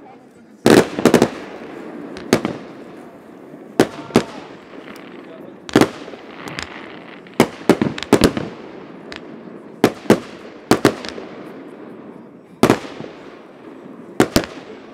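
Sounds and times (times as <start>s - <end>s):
distant fireworks din: 0.0s - 14.9s
fireworks bangs: 0.0s - 14.9s.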